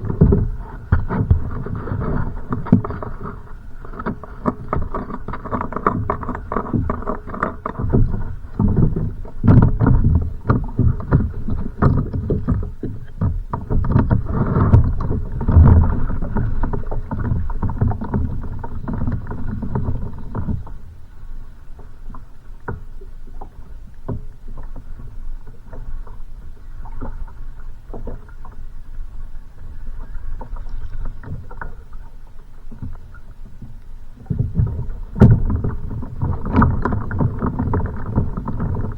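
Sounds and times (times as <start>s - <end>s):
waves slapping against kayak hull: 0.0s - 38.9s.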